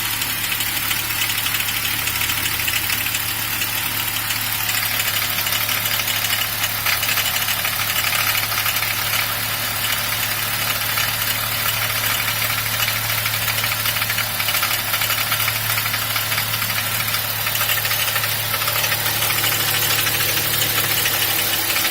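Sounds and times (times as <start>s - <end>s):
car engine idling: 0.0s - 21.9s
fast even engine clacking: 0.0s - 21.9s.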